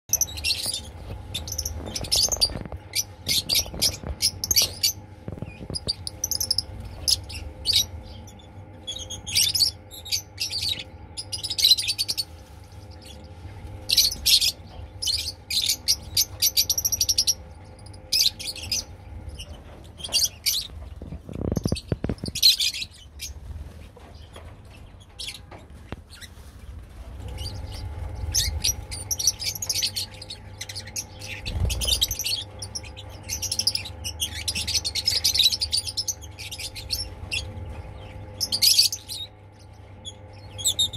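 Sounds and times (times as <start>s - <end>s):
flock of birds chirping: 0.1s - 40.9s
low hum: 0.1s - 40.9s.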